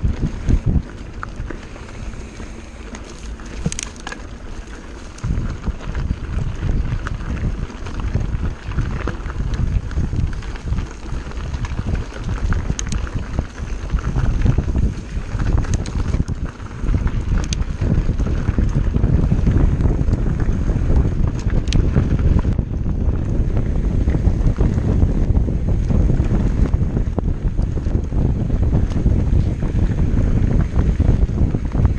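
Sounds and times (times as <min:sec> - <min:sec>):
bike clicks and rattles: 0:00.0 - 0:31.9
mountain bike rumbling over rocks: 0:00.0 - 0:31.9
wind buffeting microphone: 0:00.0 - 0:31.9.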